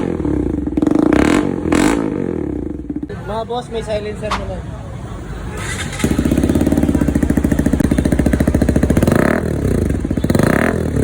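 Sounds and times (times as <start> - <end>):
motorcycle engine idling and revving: 0.0 - 3.4, 5.1 - 11.0.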